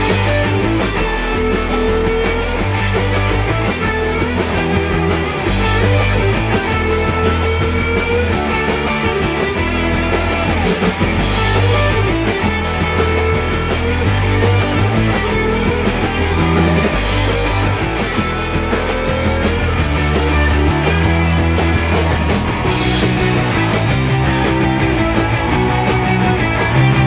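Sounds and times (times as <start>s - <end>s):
rock music: 0.0s - 27.0s.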